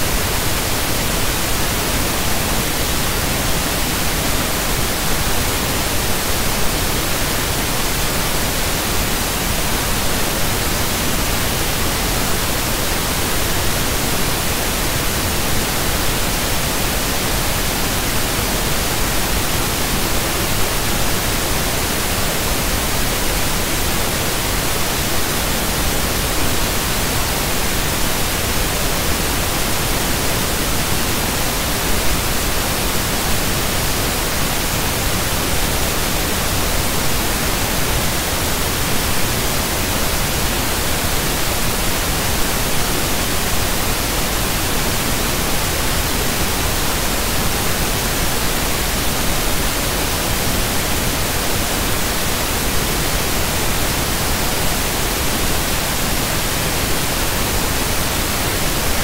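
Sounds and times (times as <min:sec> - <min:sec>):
static noise hiss: 0:00.0 - 0:59.0.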